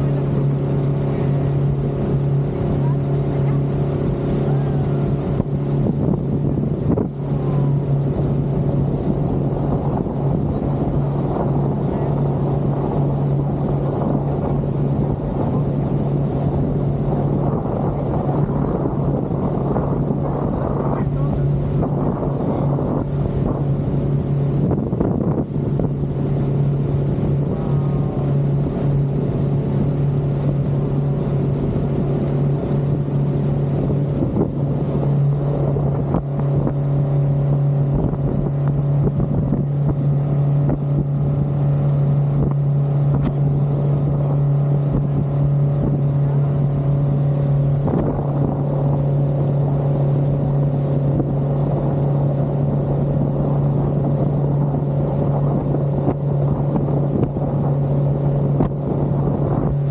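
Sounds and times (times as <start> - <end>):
outboard motor droning: 0.0 - 59.9
wake water rushing: 0.0 - 59.9
wind: 0.0 - 59.9.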